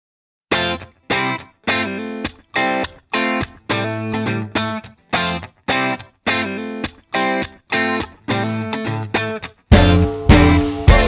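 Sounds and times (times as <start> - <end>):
distorted guitar chords: 0.5 - 11.0.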